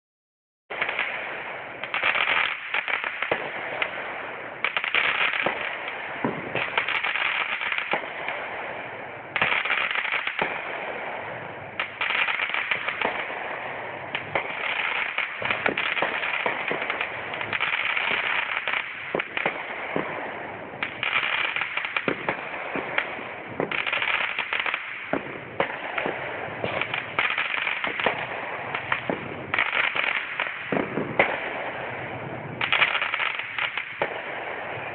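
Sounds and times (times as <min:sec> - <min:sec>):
fireworks bangs: 0:00.7 - 0:34.9
fireworks crackling: 0:00.7 - 0:34.9.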